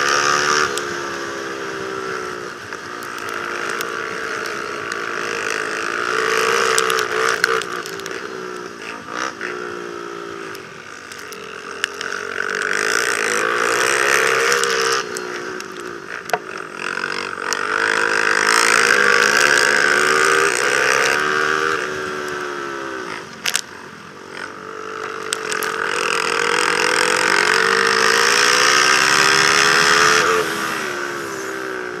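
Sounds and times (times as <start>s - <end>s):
quad engine revving: 0.0s - 23.6s, 24.3s - 32.0s.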